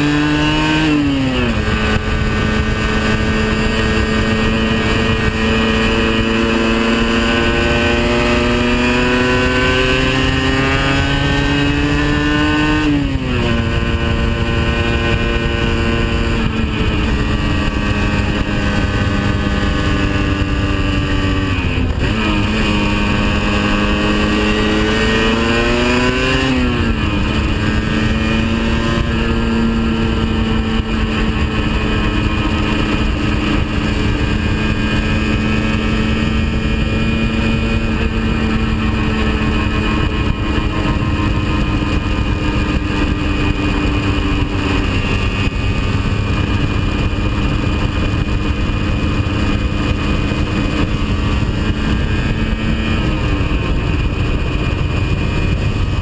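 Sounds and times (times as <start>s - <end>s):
two-stroke motorcycle engine: 0.0s - 56.0s
wind rush: 0.0s - 56.0s.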